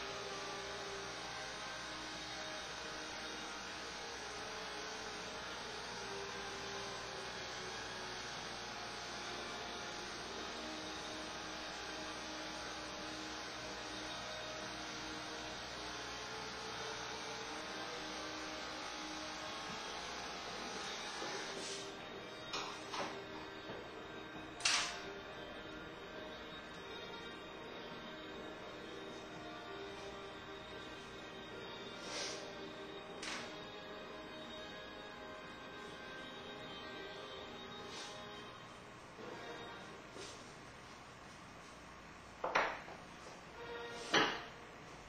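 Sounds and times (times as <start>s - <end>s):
electric hair clippers buzzing: 0.0s - 38.5s.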